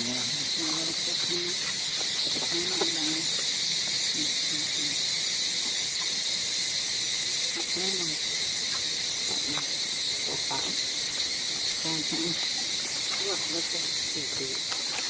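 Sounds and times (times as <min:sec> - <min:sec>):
shrill insect chorus: 0:00.0 - 0:15.0.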